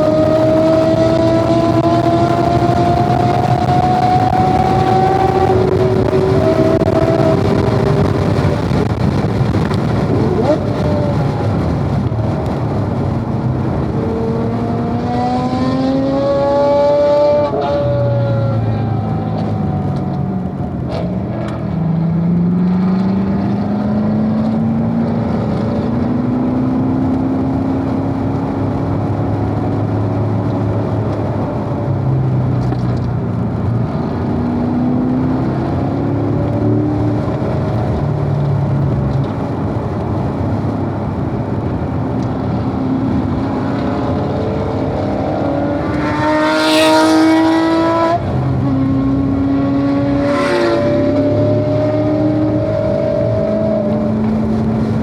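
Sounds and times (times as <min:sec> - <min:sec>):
car engine revving: 0:00.0 - 0:55.0
loud rush of noise: 0:00.0 - 0:55.0.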